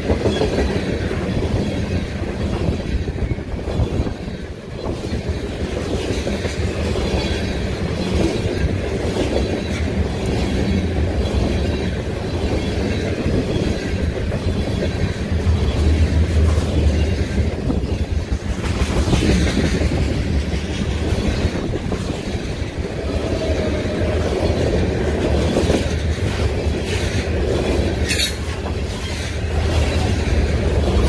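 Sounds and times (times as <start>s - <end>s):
rail clacks: 0.0s - 31.0s
train wheels rumbling on rails: 0.0s - 31.0s.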